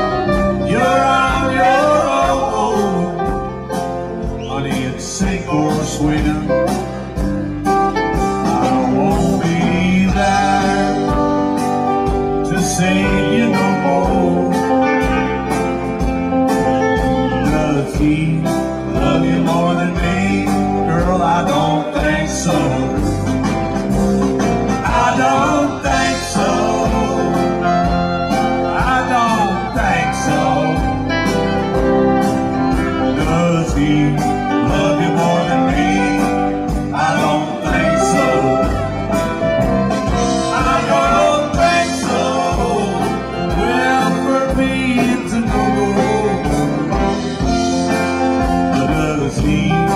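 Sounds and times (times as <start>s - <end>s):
country band playing: 0.0s - 49.9s.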